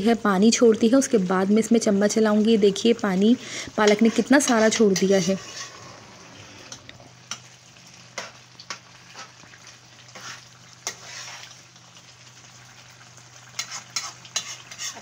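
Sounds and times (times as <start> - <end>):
food bubbling and sizzling in pot: 0.0 - 15.0.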